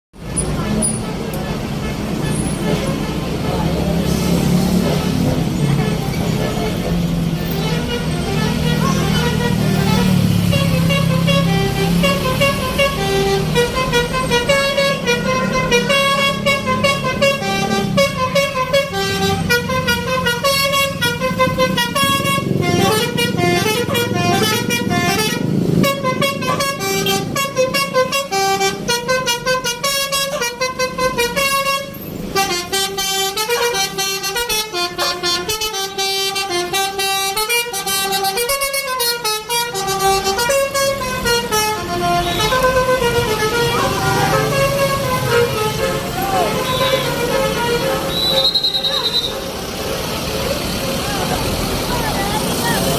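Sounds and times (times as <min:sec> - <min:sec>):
multi-tone air horn melody: 0:00.2 - 0:50.6
bus engine rumble: 0:00.2 - 0:52.9.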